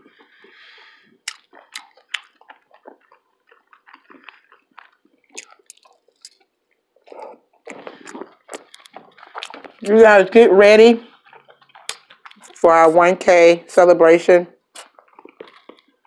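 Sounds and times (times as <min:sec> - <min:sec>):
person chewing food: 0:00.0 - 0:12.7, 0:14.6 - 0:16.0.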